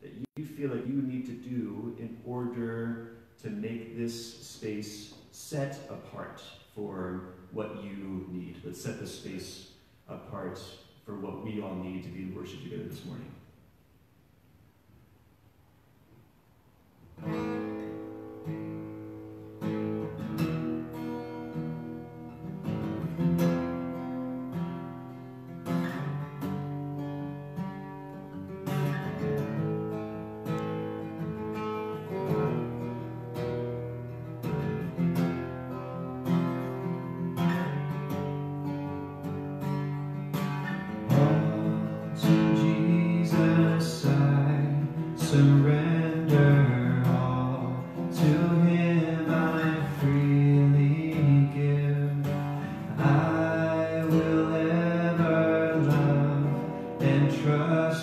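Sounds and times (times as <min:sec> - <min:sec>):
acoustic guitar strumming chords: 0:00.0 - 0:13.4, 0:17.0 - 0:58.0.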